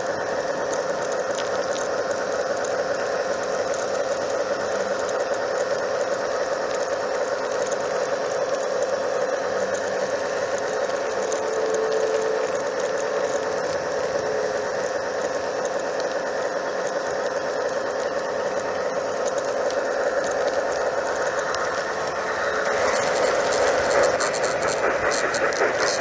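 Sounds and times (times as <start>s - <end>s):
model train motor whirring: 0.0s - 26.0s
wheels rolling on rails: 0.0s - 26.0s.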